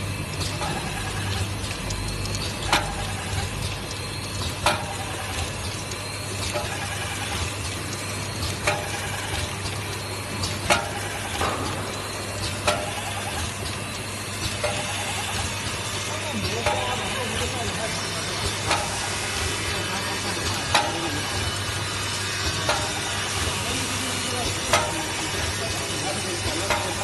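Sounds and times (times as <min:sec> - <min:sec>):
machine motor hum and hiss: 0:00.0 - 0:27.0
machine clacking: 0:00.2 - 0:27.0.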